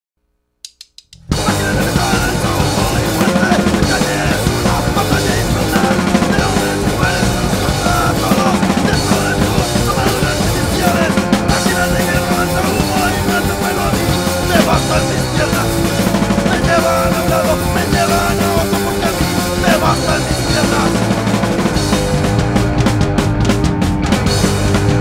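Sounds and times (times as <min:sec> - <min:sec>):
drum kit: 0:00.7 - 0:25.0
guitars: 0:01.2 - 0:25.0
hardcore punk band playing: 0:01.2 - 0:25.0.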